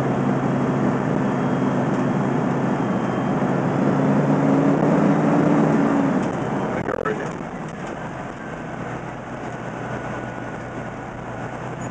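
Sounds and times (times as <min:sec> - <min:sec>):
fire engine engine drone: 0:00.0 - 0:11.9.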